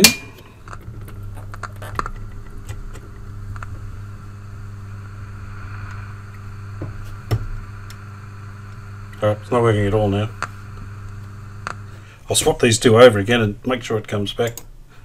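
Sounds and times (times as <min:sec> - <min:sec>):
low mains hum from speakers: 0:00.0 - 0:15.0.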